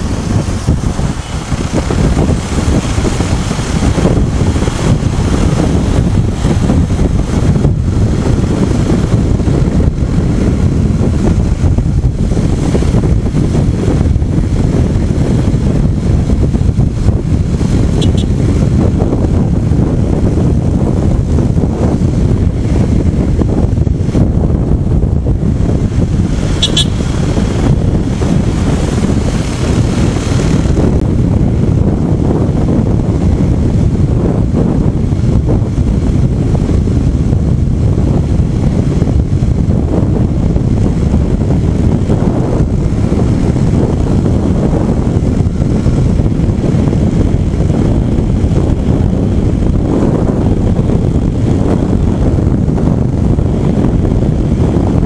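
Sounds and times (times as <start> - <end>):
motorcycle engine and tyre noise: 0.0 - 55.0
wind buffeting microphone: 0.0 - 55.0.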